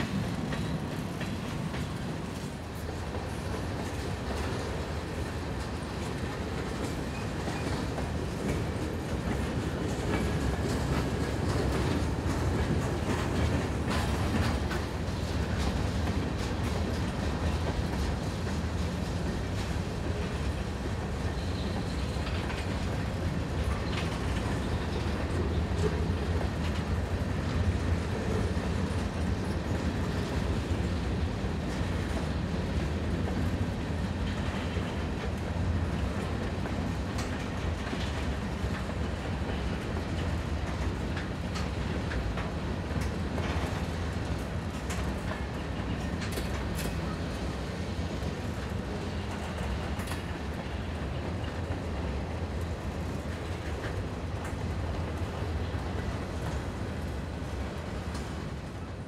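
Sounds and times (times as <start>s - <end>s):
train rumbling by: 0.0s - 59.0s.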